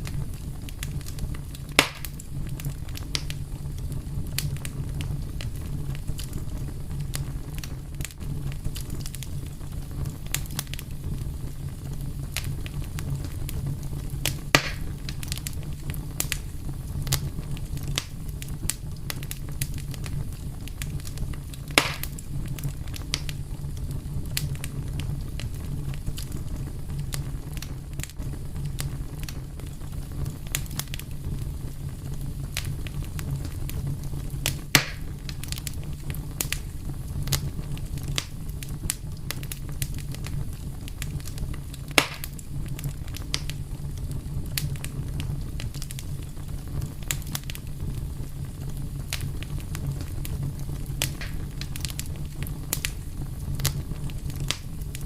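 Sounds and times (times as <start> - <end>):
fire crackles and pops: 0.0 - 55.0
wood fire rumbling: 0.0 - 55.0.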